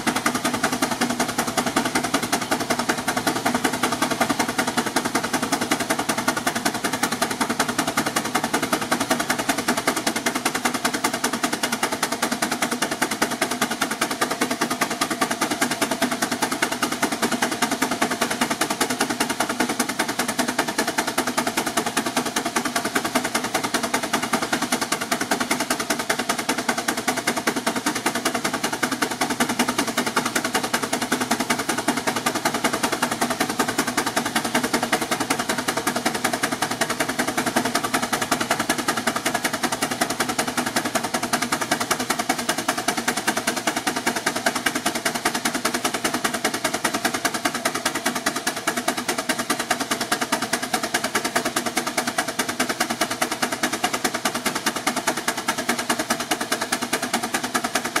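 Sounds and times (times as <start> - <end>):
steam engine exhaust beating: 0.0 - 58.0.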